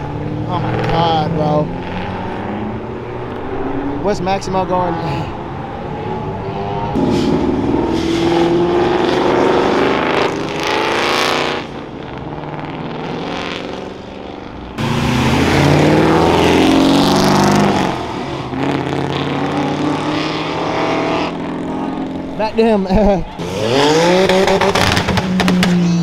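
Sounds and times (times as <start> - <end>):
loud car engine revving: 0.0 - 26.0
sports car engines accelerating: 0.0 - 26.0.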